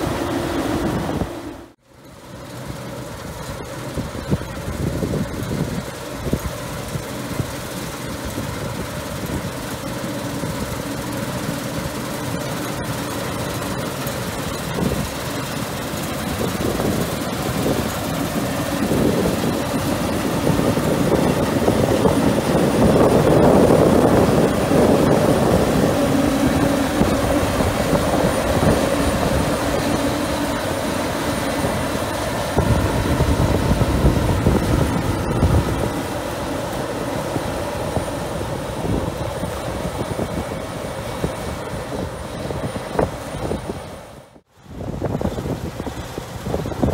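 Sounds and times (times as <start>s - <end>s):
combine harvester engine and threshing: 0.0s - 46.9s.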